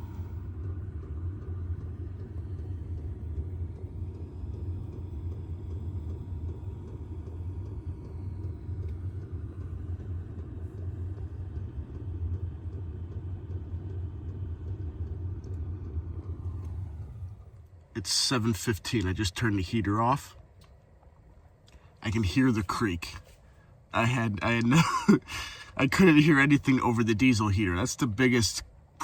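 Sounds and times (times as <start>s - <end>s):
air heater running: 0.0s - 29.0s.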